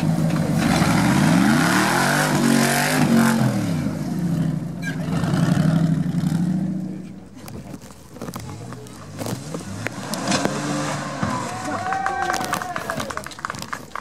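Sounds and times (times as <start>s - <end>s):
buggy engine revving: 0.0s - 14.0s.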